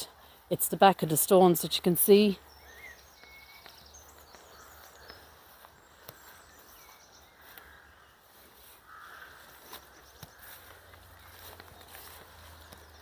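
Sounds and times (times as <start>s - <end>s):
faint birdsong: 0.0s - 13.0s
footsteps through long grass: 2.1s - 13.0s.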